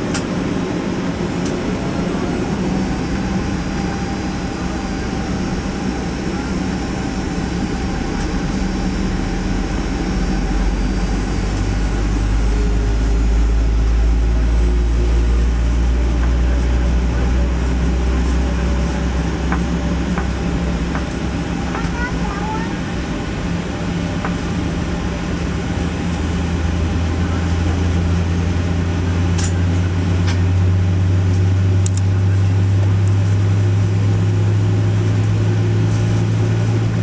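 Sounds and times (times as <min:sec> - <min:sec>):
aircraft cabin rumble and hum: 0:00.0 - 0:37.0.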